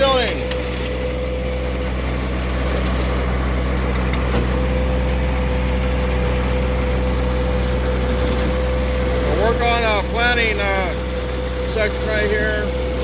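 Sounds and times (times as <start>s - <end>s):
engine whine: 0.0s - 13.0s
tractor diesel engine droning: 0.0s - 13.0s.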